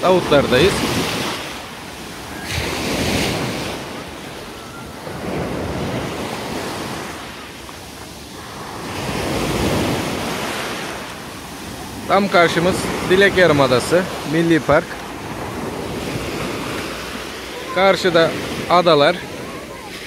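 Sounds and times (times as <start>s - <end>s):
sea waves breaking on a beach: 0.0s - 20.0s.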